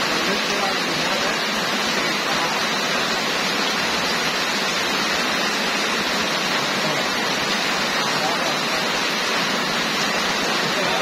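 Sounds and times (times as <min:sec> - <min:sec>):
heavy rain on pavement and roofs: 0:00.0 - 0:11.0.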